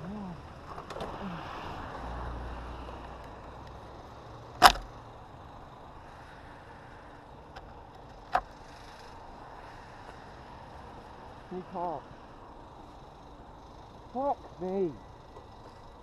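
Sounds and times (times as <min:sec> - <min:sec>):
motorcycle engine hum: 0:00.0 - 0:16.0.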